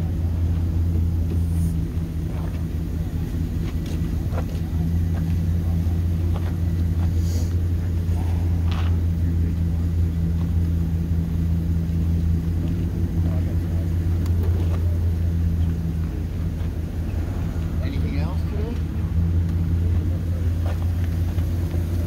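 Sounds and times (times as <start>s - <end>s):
engine humming and rumbling: 0.0s - 22.0s.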